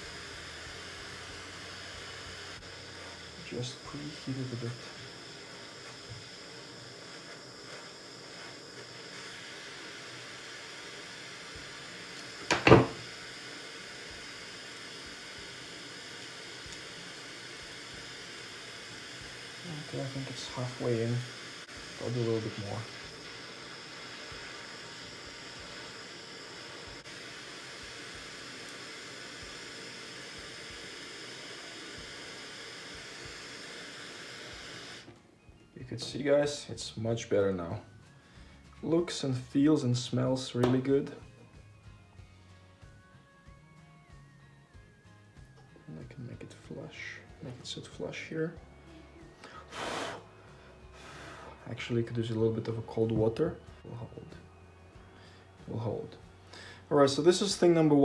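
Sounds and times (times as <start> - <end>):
gas torch hissing: 0.0 - 35.2, 35.8 - 41.3, 45.9 - 58.0.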